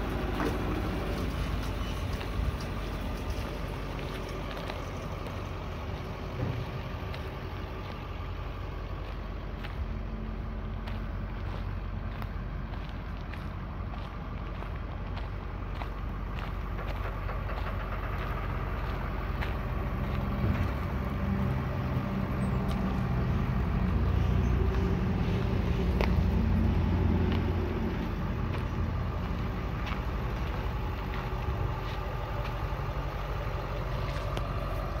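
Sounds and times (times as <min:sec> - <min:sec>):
truck diesel engine rumbling: 0:00.0 - 0:35.0.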